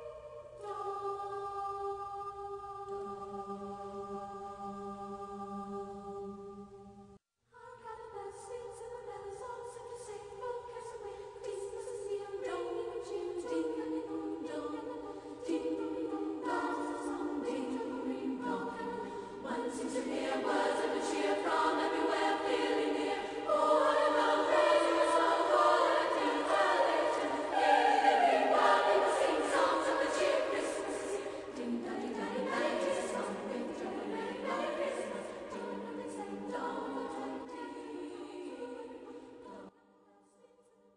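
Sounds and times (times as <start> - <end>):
choir singing slow chords: 0.0 - 40.6.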